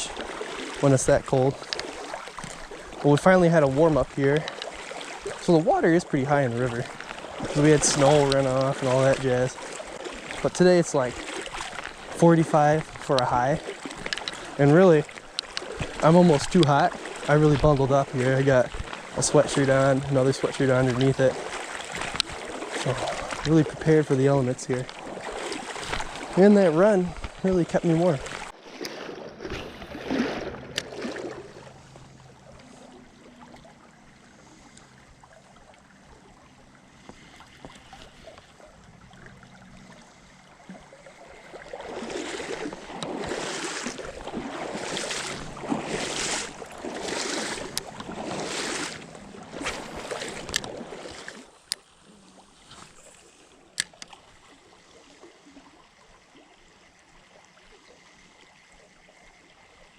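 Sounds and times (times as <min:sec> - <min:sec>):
stream rushing: 0:00.0 - 0:54.5
legs wading through river: 0:00.0 - 0:59.9.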